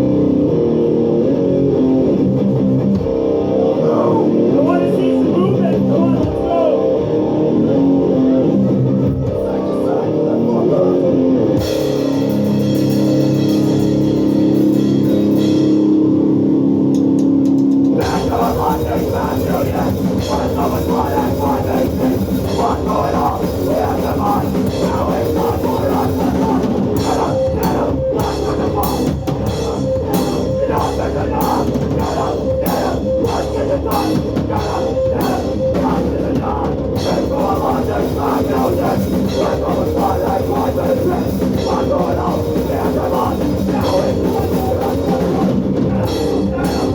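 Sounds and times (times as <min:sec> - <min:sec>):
distorted guitar chords: 0:00.0 - 0:46.9
drums: 0:00.0 - 0:46.9
loud live band playing: 0:00.0 - 0:46.9.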